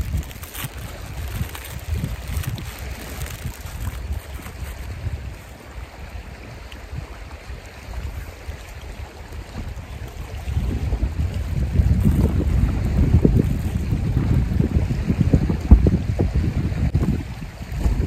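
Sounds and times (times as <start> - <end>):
steady outdoor hiss: 0.0 - 17.7
wind buffeting microphone: 0.0 - 18.0.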